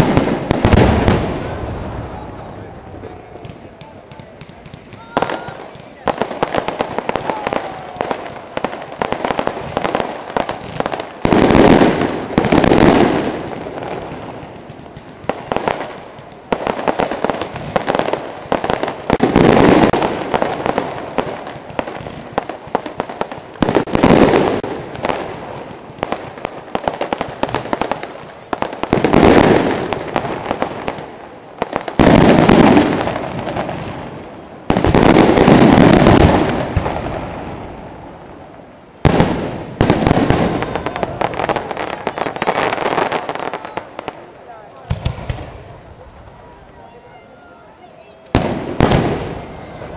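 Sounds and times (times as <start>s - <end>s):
fireworks cracking and popping: 0.0s - 49.9s
loud firework blasts: 0.0s - 49.9s.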